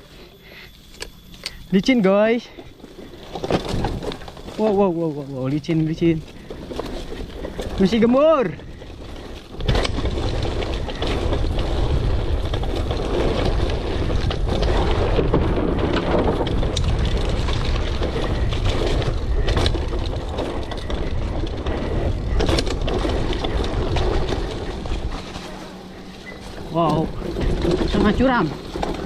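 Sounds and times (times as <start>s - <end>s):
bike rattling and clattering: 0.0s - 29.0s
wind buffeting microphone: 5.3s - 29.0s.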